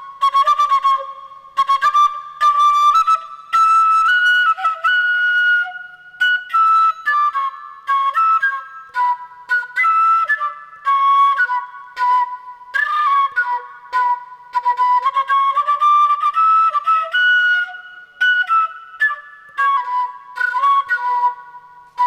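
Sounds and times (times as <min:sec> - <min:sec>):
flute-like solo melody: 0:00.0 - 0:22.0.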